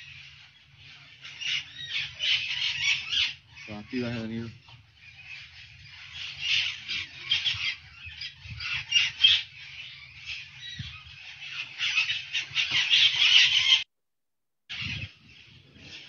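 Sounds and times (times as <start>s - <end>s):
parrots squawking: 0.0s - 13.8s.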